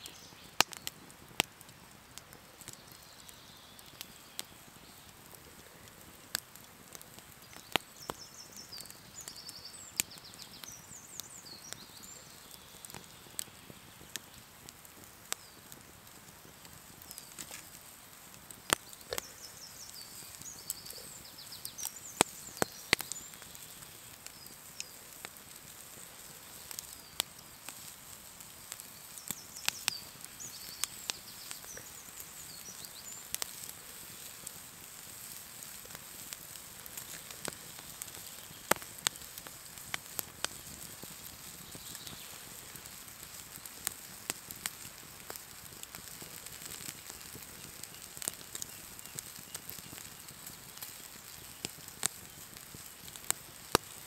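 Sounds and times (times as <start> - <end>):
campfire crackling and popping: 0.0 - 54.0
small birds chirping: 0.0 - 54.0.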